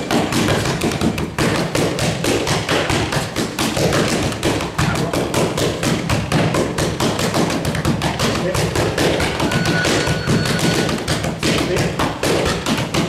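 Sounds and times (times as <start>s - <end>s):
punches smacking focus mitts: 0.0s - 13.0s.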